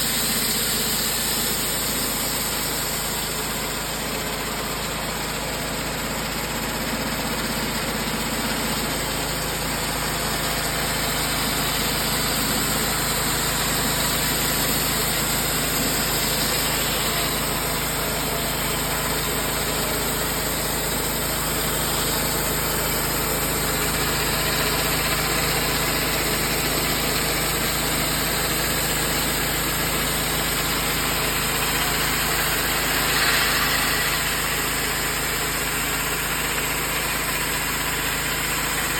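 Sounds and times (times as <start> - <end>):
saw cutting log: 0.0 - 38.9
sawmill engine running: 0.0 - 38.9.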